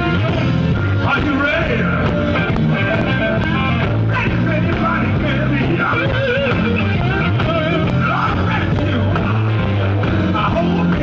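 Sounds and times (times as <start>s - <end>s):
electric blues band playing: 0.0s - 11.0s
electric guitar: 0.0s - 11.0s.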